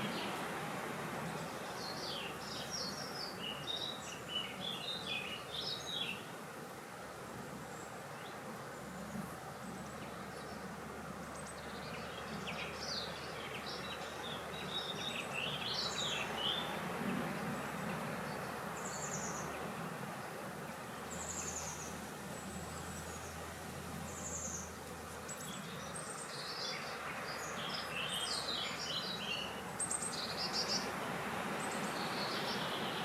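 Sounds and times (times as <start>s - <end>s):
steady wind: 0.0s - 33.0s
birds chirping: 1.2s - 6.3s, 7.6s - 33.0s.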